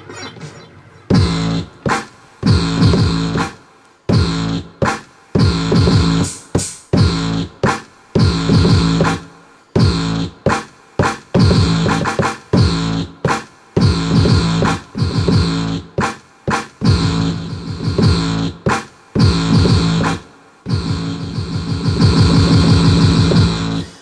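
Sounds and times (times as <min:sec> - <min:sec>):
electronic drum hits: 0:01.1 - 0:23.9.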